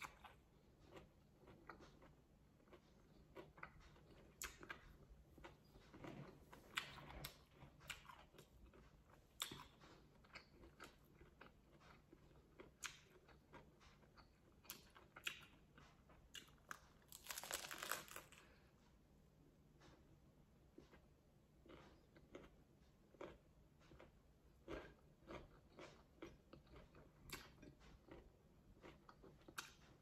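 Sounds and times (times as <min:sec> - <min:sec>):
crunchy chewing: 0:00.0 - 0:18.6, 0:20.7 - 0:30.0.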